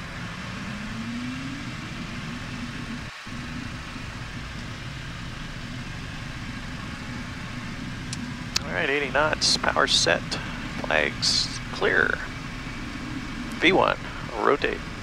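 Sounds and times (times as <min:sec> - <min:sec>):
jet engines spooling up: 0:00.0 - 0:15.0.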